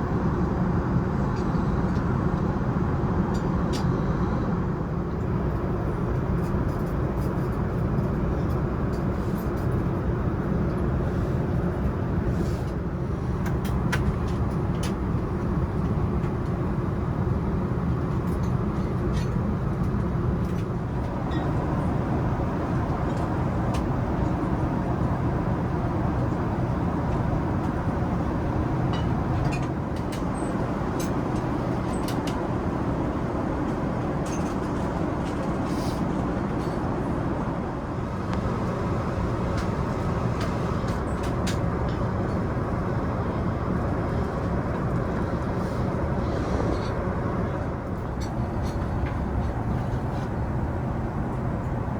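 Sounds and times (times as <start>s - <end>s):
aircraft cabin engine rumble: 0.0s - 51.9s.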